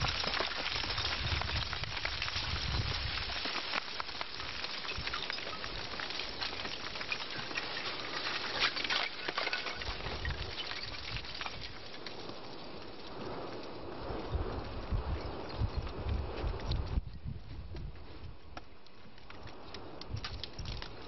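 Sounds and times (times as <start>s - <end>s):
rock blocks crackling and tumbling: 0.0s - 21.0s.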